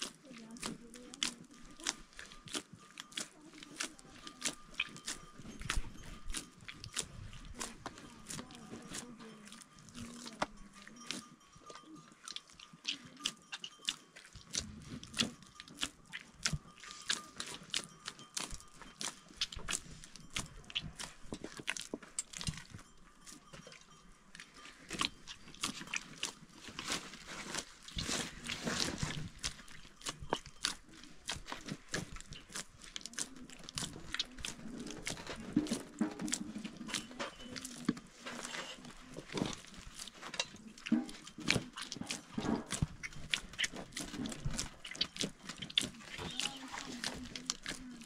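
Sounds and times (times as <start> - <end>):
dough kneaded by hand squishing: 0.0 - 48.0.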